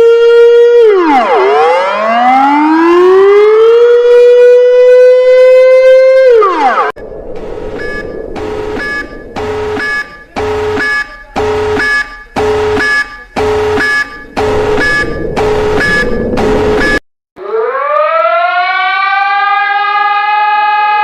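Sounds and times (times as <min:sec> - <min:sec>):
two-tone alarm signal: 0:00.0 - 0:19.3.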